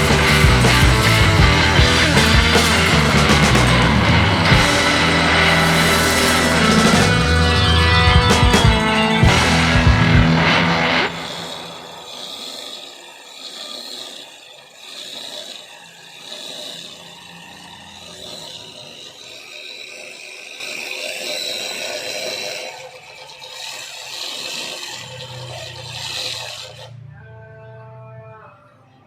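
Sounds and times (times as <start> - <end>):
scraping rattling noise: 0.0 - 27.1
small motor whirring: 0.0 - 27.2.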